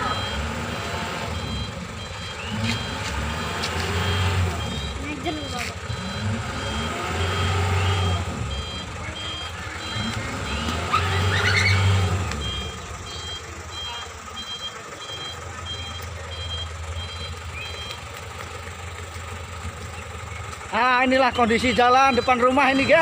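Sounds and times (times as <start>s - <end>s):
reversing alarm beeping: 0.0s - 18.2s, 20.8s - 23.0s
vehicle engine rumble: 0.0s - 23.0s.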